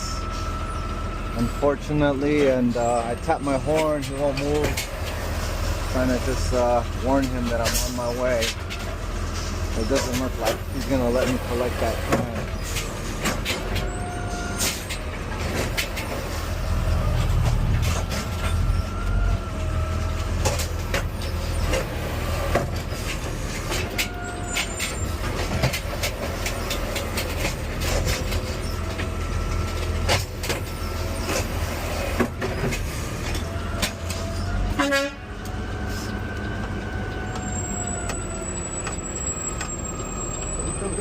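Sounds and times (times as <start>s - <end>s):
garbage truck engine rumble: 0.0s - 41.0s.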